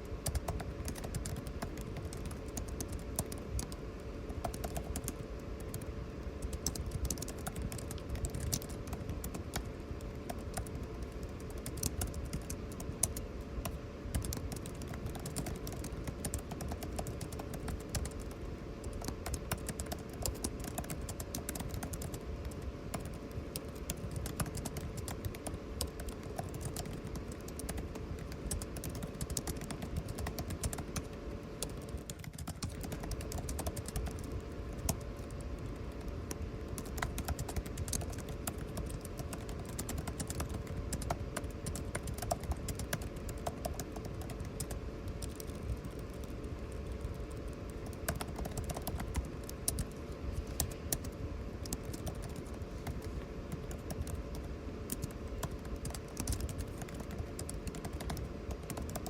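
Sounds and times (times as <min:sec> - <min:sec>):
air conditioning hum: 0:00.0 - 0:59.0
computer keyboard typing: 0:00.0 - 0:59.0.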